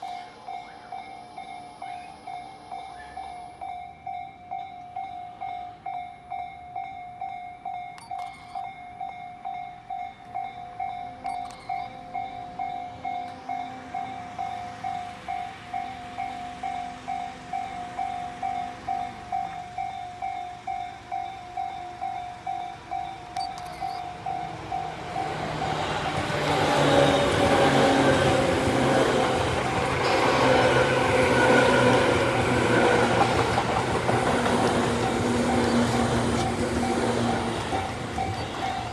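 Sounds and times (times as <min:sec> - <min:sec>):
level crossing bell ringing: 0:00.0 - 0:26.9, 0:28.0 - 0:38.9
train passing: 0:00.0 - 0:38.9.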